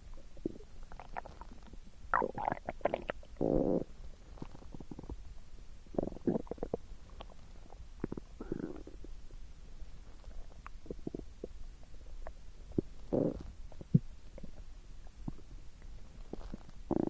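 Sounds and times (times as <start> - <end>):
stomach gurgling and rumbling: 0.0 - 9.4, 10.0 - 17.0.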